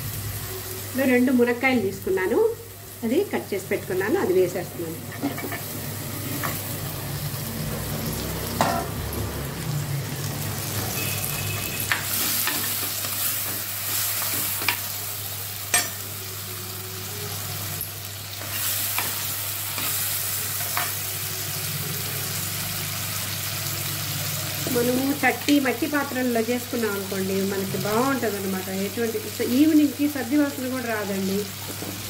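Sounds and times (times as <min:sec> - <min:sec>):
food sizzling in oil: 0:00.0 - 0:32.0.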